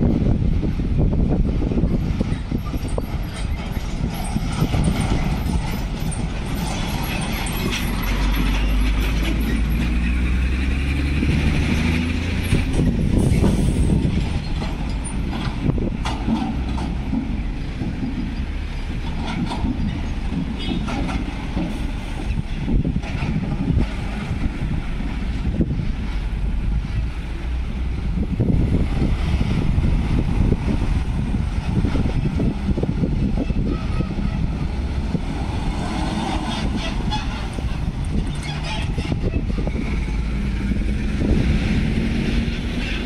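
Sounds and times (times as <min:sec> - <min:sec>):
trucks driving by: 0:00.0 - 0:43.0.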